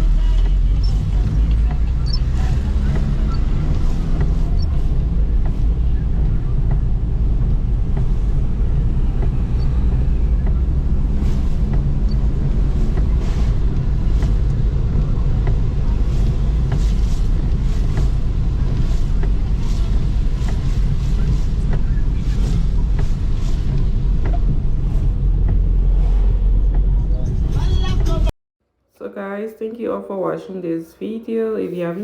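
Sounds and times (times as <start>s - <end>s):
street traffic noise: 0.0s - 28.3s
wind buffeting microphone: 0.0s - 28.3s.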